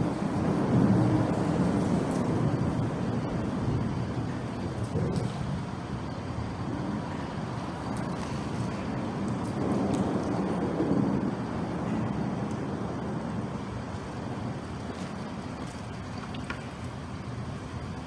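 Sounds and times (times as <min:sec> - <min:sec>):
road traffic rumbling: 0:00.0 - 0:18.0.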